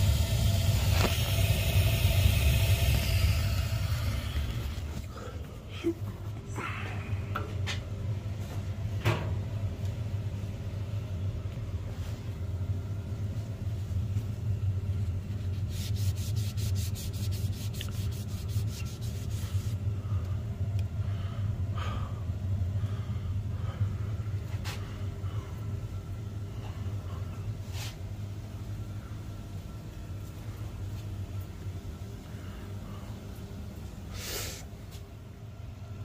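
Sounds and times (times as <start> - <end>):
water heater low rumble: 0.0 - 36.0.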